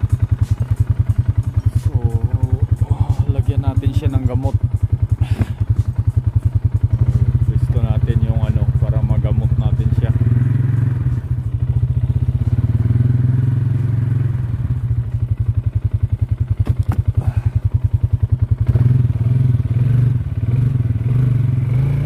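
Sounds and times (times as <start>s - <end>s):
motorbike engine idling: 0.0s - 21.7s.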